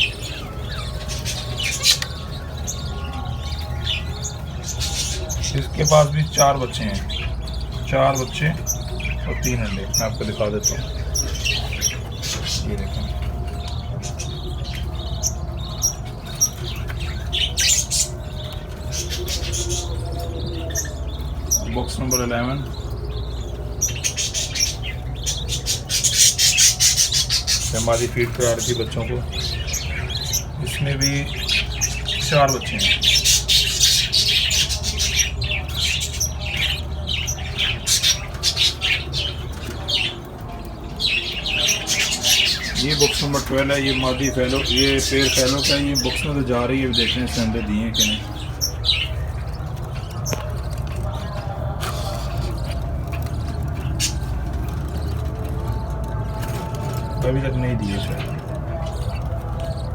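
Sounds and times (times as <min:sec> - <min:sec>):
parrots chirping and squawking: 0:00.0 - 0:59.9.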